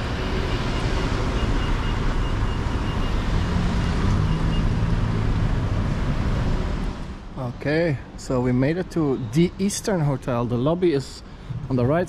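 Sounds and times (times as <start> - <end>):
road traffic: 0.0 - 12.0
vehicle engine hum: 0.0 - 12.0.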